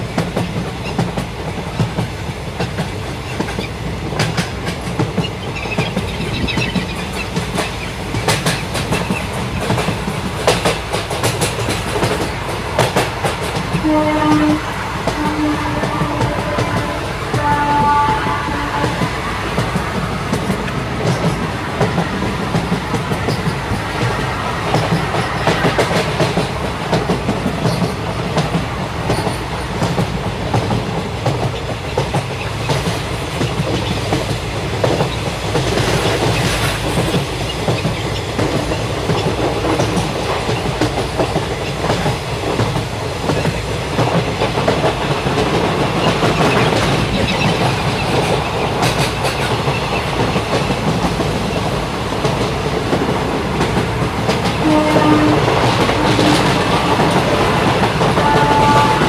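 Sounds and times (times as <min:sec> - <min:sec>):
train rushing noise: 0:00.0 - 0:59.0
wheels clicking on rails: 0:00.0 - 0:59.0.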